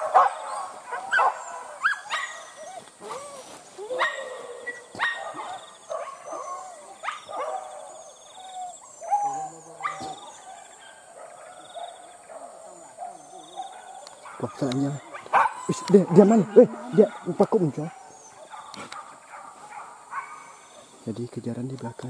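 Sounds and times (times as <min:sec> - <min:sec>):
hunting dogs yelping and baying: 0:00.0 - 0:21.1.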